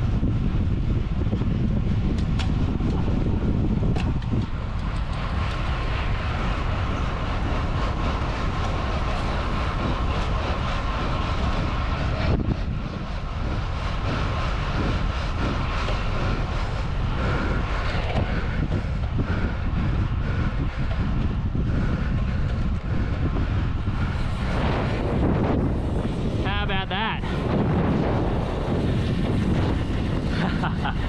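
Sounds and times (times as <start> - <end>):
faint bike riding noise: 0.0 - 31.0
wind buffeting microphone: 0.0 - 31.0.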